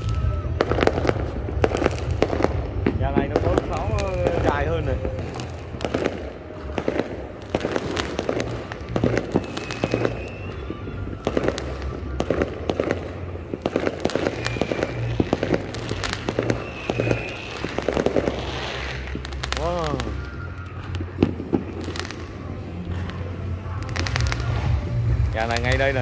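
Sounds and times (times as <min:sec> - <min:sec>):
fireworks bangs and pops: 0:00.0 - 0:26.0.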